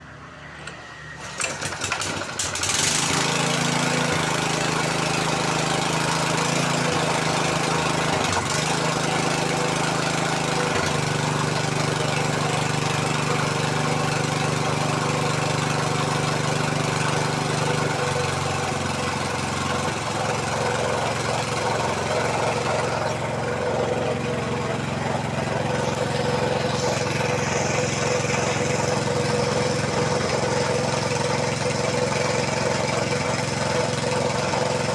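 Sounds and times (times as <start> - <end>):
suction machine engine running: 0.0 - 34.9.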